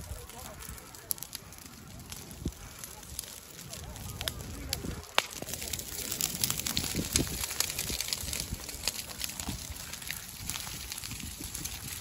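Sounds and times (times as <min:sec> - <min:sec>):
dry grass burning and crackling: 0:00.0 - 0:12.0.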